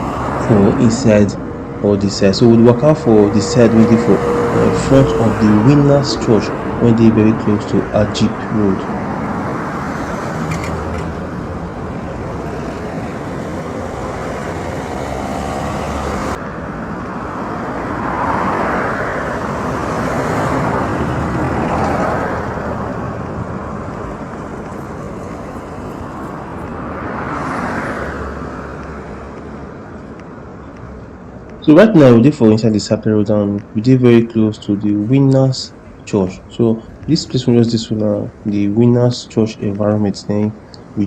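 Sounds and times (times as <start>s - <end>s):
road noise: 0.0s - 41.0s
vehicles passing by: 0.0s - 41.0s.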